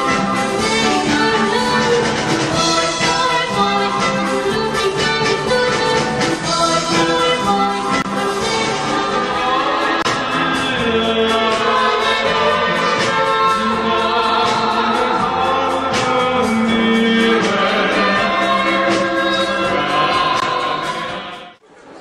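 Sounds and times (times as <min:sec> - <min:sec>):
live pop band playing: 0:00.0 - 0:21.6
women singing: 0:00.0 - 0:21.6.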